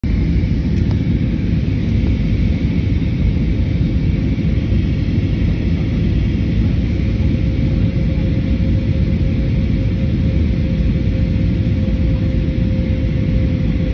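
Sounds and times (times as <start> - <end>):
jet engine and airflow rumble: 0.0 - 13.9.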